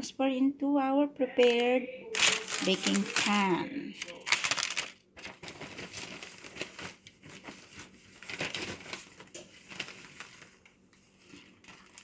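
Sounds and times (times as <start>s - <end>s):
plastic bag and paper crinkling: 1.4s - 12.0s.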